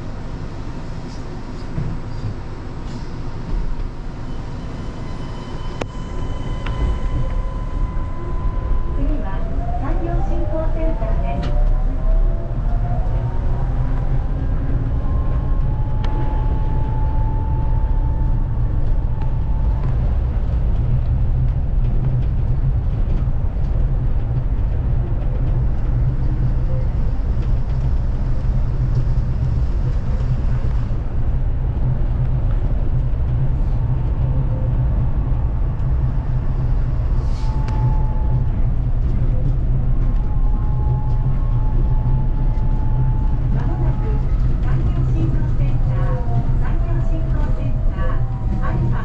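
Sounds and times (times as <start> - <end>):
train low rumble: 0.0 - 49.0.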